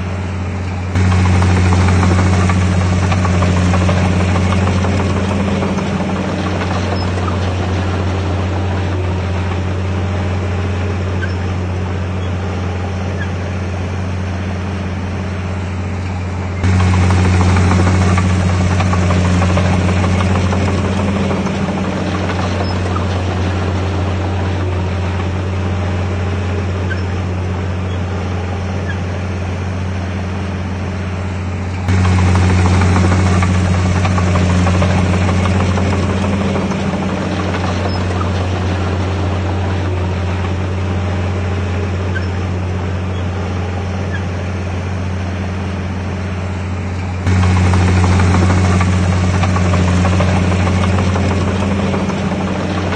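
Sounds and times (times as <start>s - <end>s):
bulldozer diesel engine droning: 0.0s - 52.9s.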